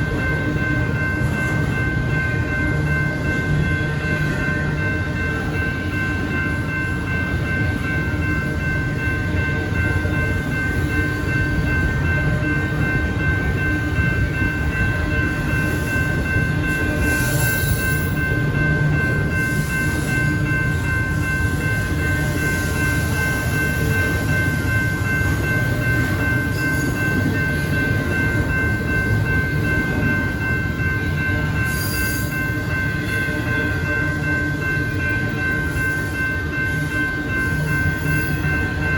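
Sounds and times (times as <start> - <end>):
steady high-pitched tone: 0.0 - 38.9
train cars rumbling past: 0.0 - 38.9.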